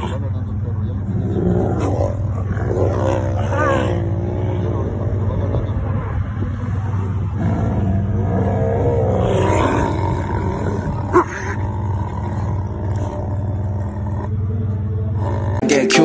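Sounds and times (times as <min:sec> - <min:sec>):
steady low hum: 0:00.0 - 0:15.6
tiger growling and snarling: 0:00.0 - 0:15.7.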